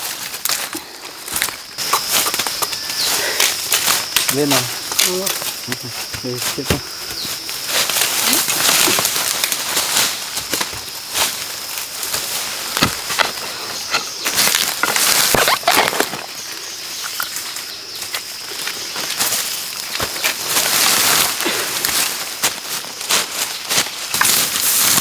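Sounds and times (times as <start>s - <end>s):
dry bamboo leaves rustling: 0.0s - 25.0s
bamboo stalks snapping: 0.1s - 16.4s, 18.0s - 25.0s.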